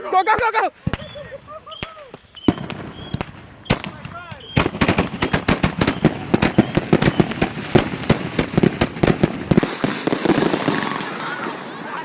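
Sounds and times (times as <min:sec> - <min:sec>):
fireworks cracking: 0:00.0 - 0:12.0.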